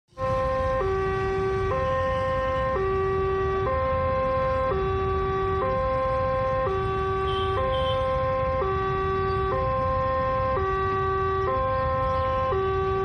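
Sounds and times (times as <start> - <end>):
two-tone warning siren: 0.1 - 13.0.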